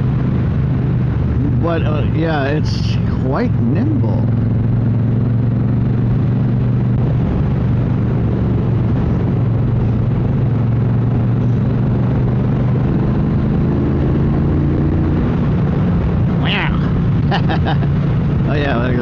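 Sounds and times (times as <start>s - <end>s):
motorcycle engine running: 0.0s - 19.0s
road noise: 0.0s - 19.0s
wind noise: 0.0s - 19.0s.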